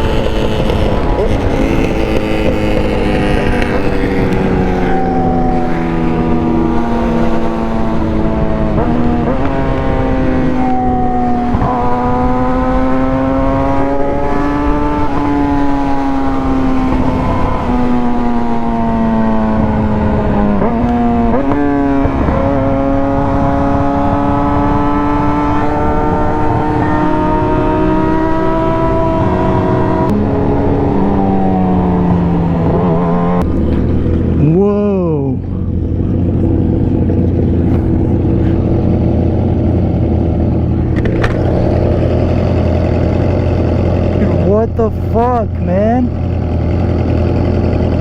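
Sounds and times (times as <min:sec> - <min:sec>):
motorcycle engine revving through gears: 0:00.0 - 0:48.0.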